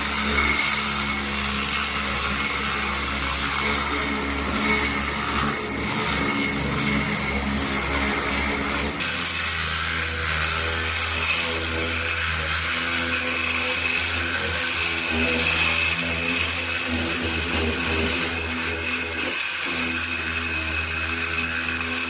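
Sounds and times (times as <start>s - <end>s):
power tool rasping: 0.0s - 22.0s.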